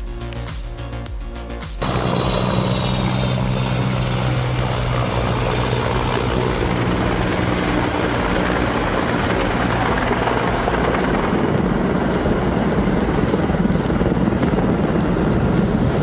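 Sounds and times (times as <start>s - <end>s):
helicopter rotor and engine: 1.8s - 16.0s.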